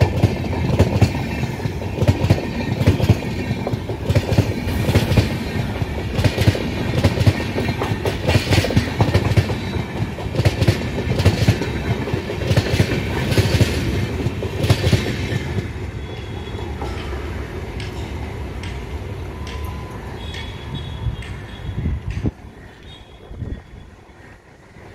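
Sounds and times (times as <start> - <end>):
train wheels clattering over rail joints: 0.0 - 22.6
train rumble: 0.0 - 24.9.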